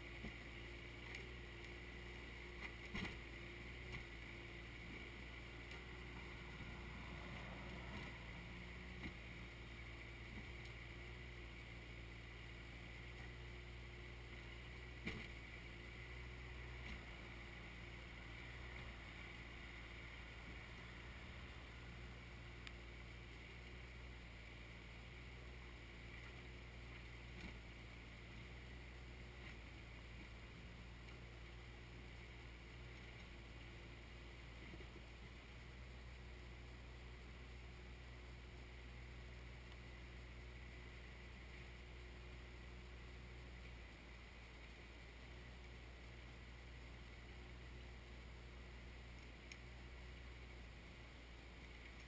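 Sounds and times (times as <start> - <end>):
tractor diesel engine droning: 0.0 - 49.1.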